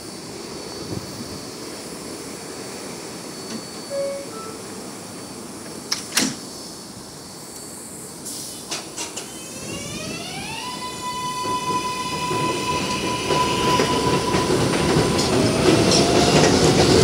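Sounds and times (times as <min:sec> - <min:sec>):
subway train humming with whine: 0:00.0 - 0:17.0.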